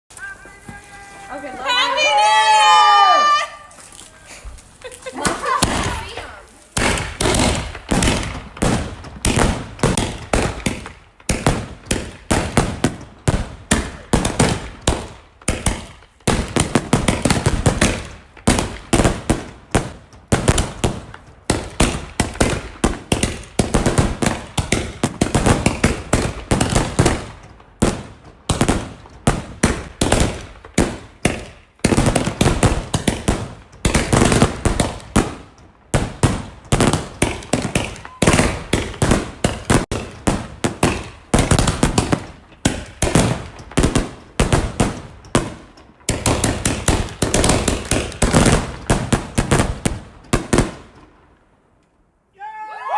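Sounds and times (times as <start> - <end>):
firecrackers banging: 0.1 - 51.1.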